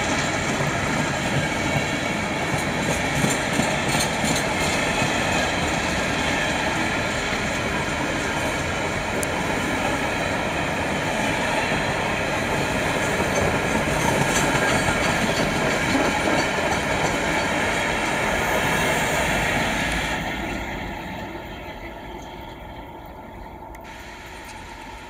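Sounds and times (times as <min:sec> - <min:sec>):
train wheels clattering on rails: 0:00.0 - 0:21.0.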